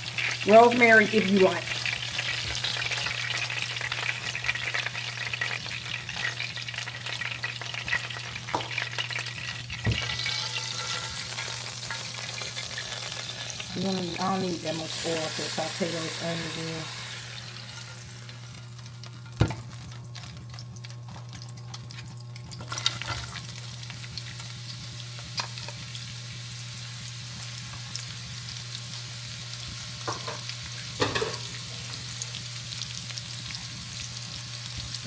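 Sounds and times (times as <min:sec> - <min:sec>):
onions sizzling in a frying pan: 0:00.0 - 0:35.0.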